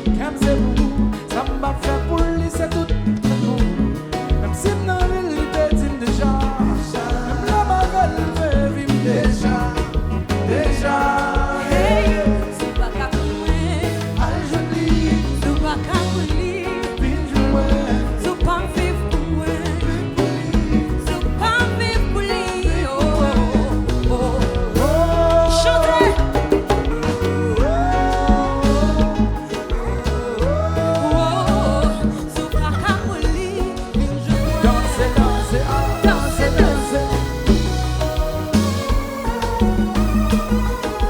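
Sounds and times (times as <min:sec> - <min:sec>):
live band playing dance music: 0:00.0 - 0:41.0
person singing: 0:00.0 - 0:41.0
steady bass line: 0:00.0 - 0:41.0.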